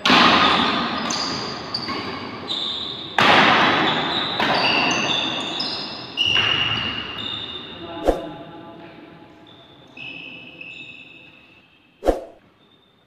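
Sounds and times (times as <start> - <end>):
shoes squeaking on floor: 0.4 - 8.4, 9.4 - 13.0.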